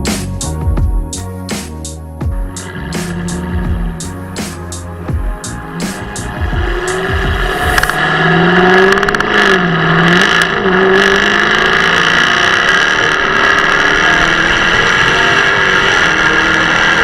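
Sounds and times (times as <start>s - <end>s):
car engine running: 2.3s - 17.0s.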